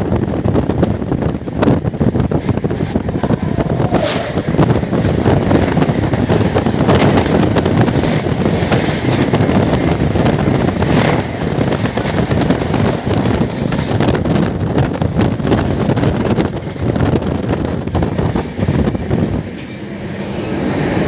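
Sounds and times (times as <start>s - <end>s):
rush of wind and wheels on rails: 0.0s - 21.0s
train wheels clacking over rail joints: 0.5s - 20.4s.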